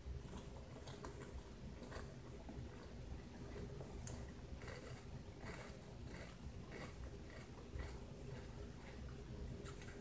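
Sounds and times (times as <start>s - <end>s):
person chewing crisps: 0.3s - 10.0s.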